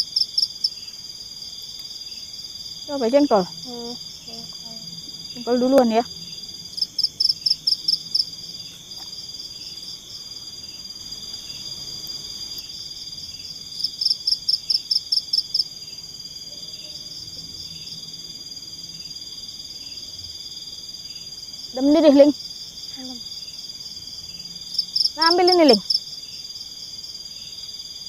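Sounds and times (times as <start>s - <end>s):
insect chorus buzzing: 0.0s - 28.0s
insect rapid chirps: 0.0s - 28.0s.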